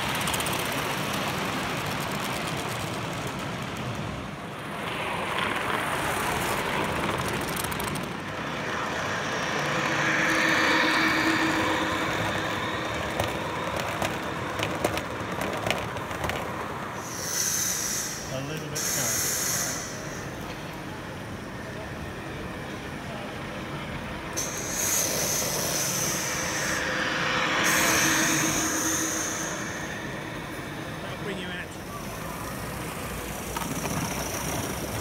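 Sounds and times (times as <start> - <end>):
model train rolling: 0.0 - 35.0.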